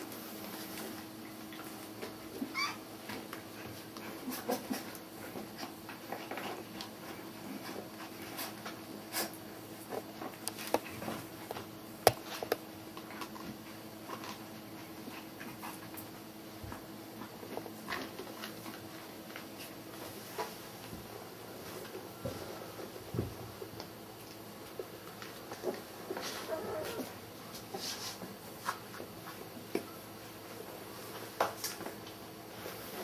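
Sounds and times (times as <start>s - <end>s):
puppies panting and scuffling: 0.1s - 33.0s.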